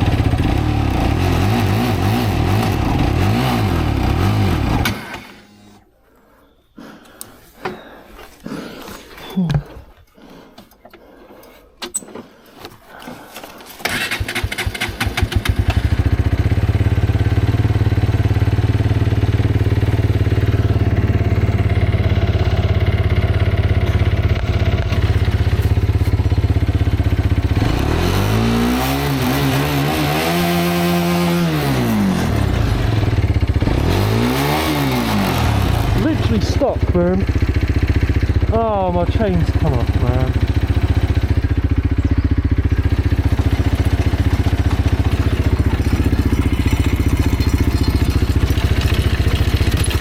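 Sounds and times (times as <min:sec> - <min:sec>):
motorcycle engine revving: 0:00.0 - 0:05.8, 0:13.2 - 0:50.0
motorcycle engine starting and idling: 0:00.0 - 0:05.8, 0:06.9 - 0:50.0.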